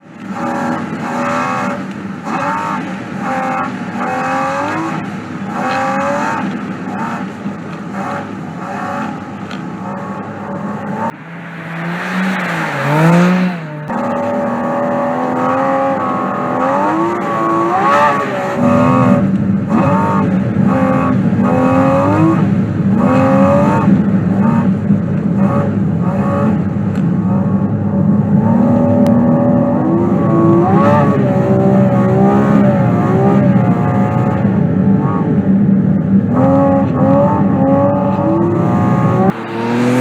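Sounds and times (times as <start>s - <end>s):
car engine revving: 0.1s - 40.0s.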